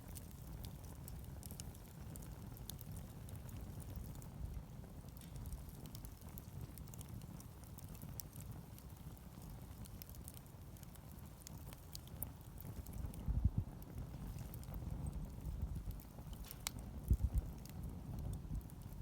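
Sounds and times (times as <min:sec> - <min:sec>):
campfire crackling and popping: 0:00.0 - 0:19.0
fire low rumble: 0:00.0 - 0:19.0.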